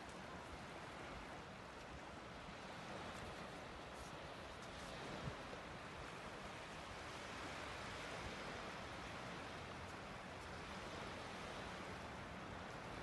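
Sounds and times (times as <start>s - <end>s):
light breeze: 0.0s - 13.0s
surf washing on beach: 0.0s - 13.0s.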